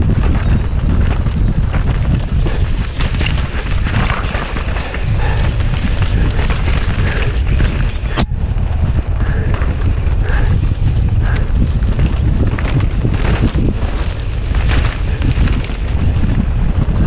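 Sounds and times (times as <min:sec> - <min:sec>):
bike clattering over rough ground: 0:00.0 - 0:17.0
wind buffeting microphone: 0:00.0 - 0:17.0.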